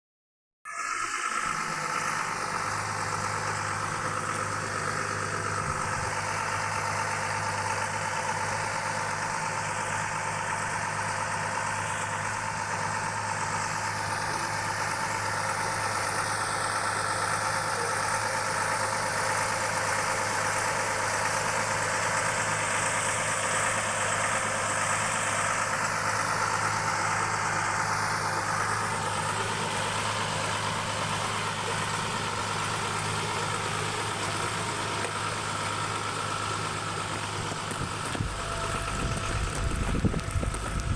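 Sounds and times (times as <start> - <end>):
drilling rig engine humming: 0.7 - 40.9.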